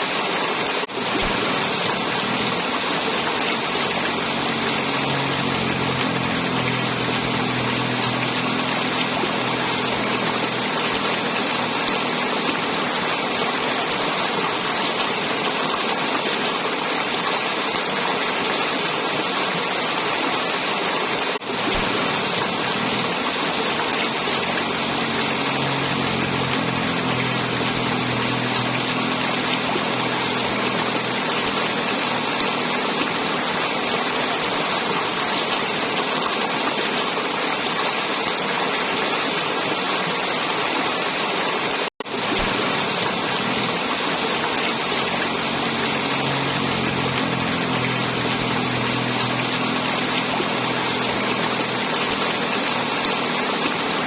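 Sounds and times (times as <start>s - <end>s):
river water flowing and gurgling: 0.0s - 54.0s.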